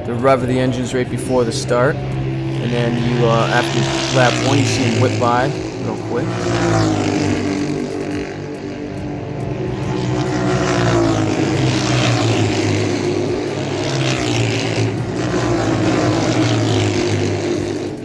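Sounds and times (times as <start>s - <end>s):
motorcycles revving: 0.0s - 18.0s.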